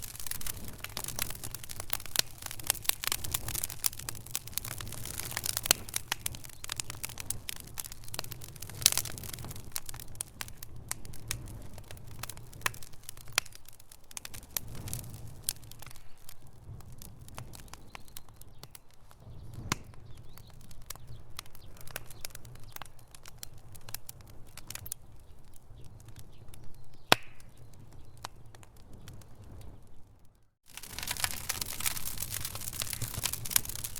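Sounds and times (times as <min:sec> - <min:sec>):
low rumble of fire: 0:00.0 - 0:33.9
wood fire crackling: 0:00.0 - 0:33.9.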